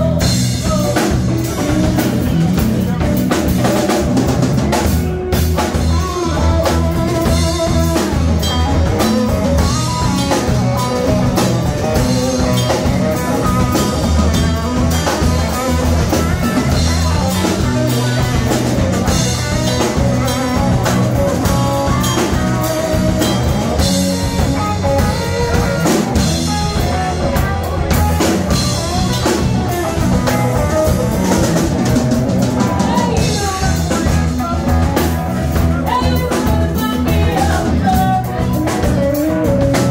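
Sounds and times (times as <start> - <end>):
drum kit: 0.0 - 39.9
lead electric guitar: 0.0 - 39.9
rhythm guitars: 0.0 - 39.9.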